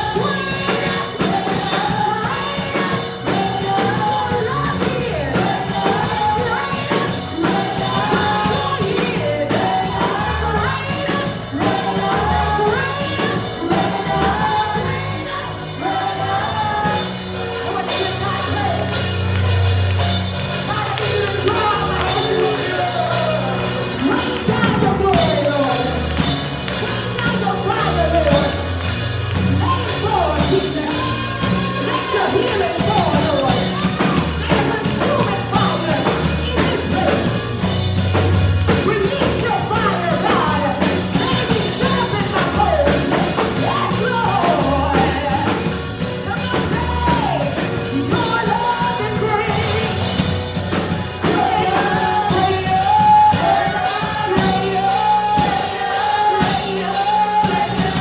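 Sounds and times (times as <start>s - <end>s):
band playing worship music: 0.0s - 58.0s
voices singing: 0.0s - 58.0s.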